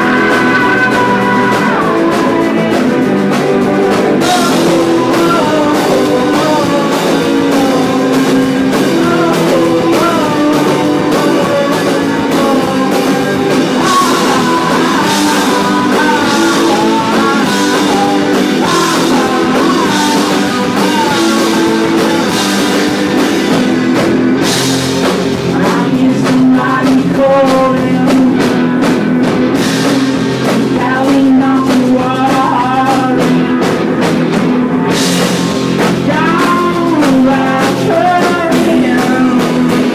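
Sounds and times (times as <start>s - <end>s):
person singing: 0.0s - 24.1s, 25.3s - 39.9s
drum kit: 0.0s - 39.9s
electric guitars: 0.0s - 39.9s.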